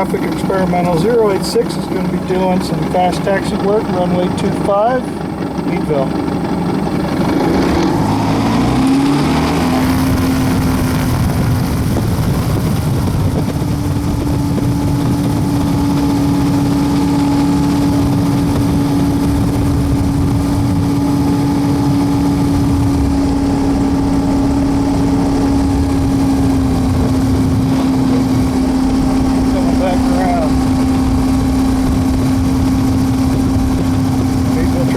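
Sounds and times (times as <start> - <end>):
propeller engine from cockpit: 0.0 - 34.9.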